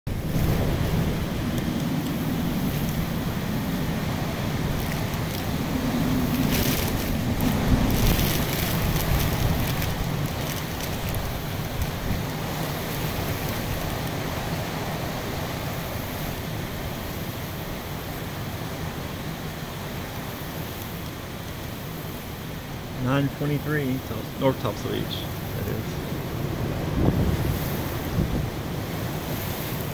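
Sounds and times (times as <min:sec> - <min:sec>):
wind buffeting microphone: 0:00.1 - 0:19.2, 0:23.8 - 0:29.9
strong wind gusts: 0:00.1 - 0:29.9
wind-driven rain: 0:00.1 - 0:29.9.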